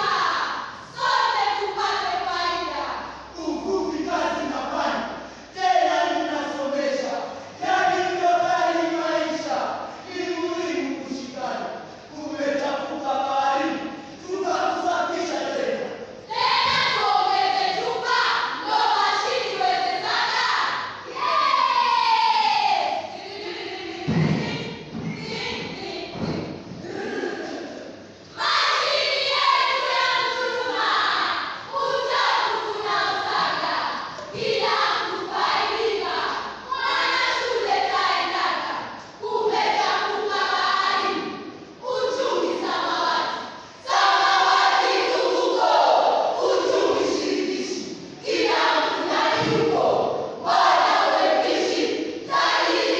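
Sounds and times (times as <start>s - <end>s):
choir voicing lines in unison: 0.0s - 52.9s.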